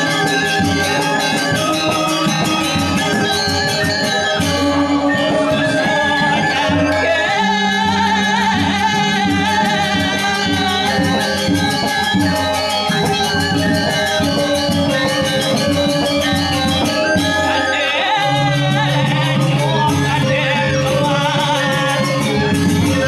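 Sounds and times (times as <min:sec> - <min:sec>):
gamelan dance music: 0:00.0 - 0:23.0.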